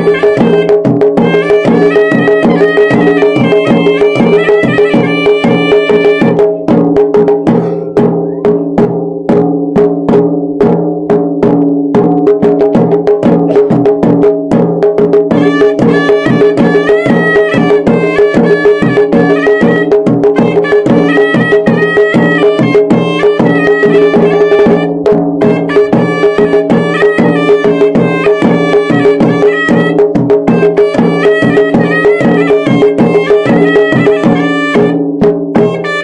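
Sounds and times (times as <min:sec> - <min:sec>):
reedy shawm melody: 0:00.0 - 0:09.3, 0:15.2 - 0:36.0
fast dense drumming: 0:00.0 - 0:36.0.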